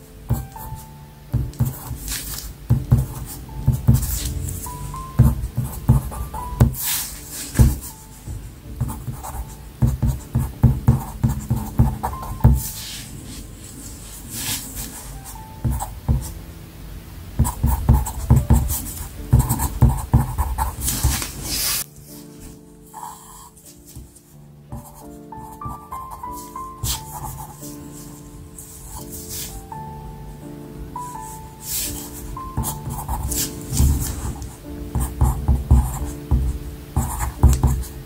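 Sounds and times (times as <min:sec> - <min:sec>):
pencil writing on paper: 0:00.3 - 0:16.4, 0:17.4 - 0:21.8, 0:22.9 - 0:24.1, 0:24.7 - 0:29.6, 0:31.2 - 0:38.0.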